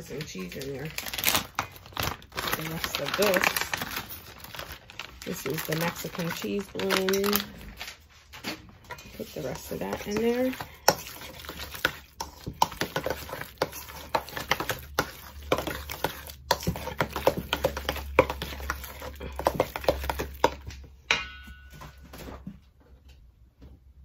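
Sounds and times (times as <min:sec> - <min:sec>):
metal spoon stirring in bowl: 0:00.0 - 0:07.6, 0:08.8 - 0:21.6.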